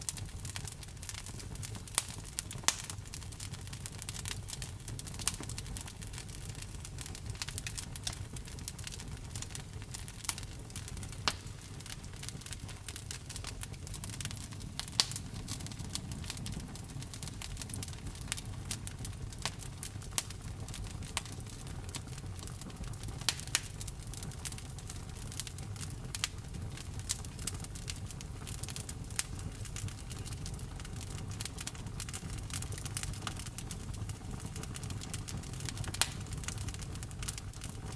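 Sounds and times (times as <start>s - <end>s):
logs crackling and popping: 0.0s - 37.9s
low rumble of flames: 0.0s - 37.9s.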